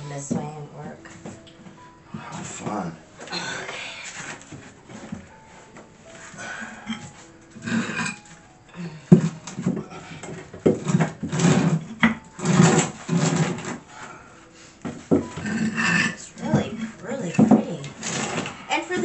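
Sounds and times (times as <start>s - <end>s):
tiles scraping on floor: 3.7s - 19.0s.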